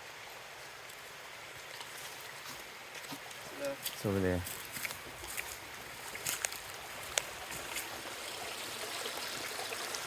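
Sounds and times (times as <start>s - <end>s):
stream trickling: 0.0s - 10.0s.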